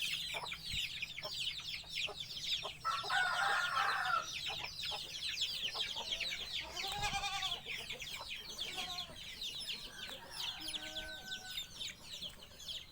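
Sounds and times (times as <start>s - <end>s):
birds chirping in chorus: 0.0s - 12.9s.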